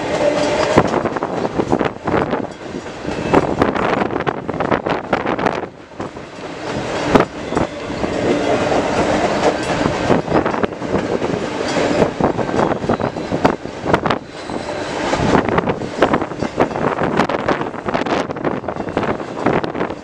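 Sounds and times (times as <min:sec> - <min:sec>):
train wheels clacking over rail joints: 0:00.0 - 0:04.8, 0:05.7 - 0:20.0
train rumble: 0:00.0 - 0:20.0.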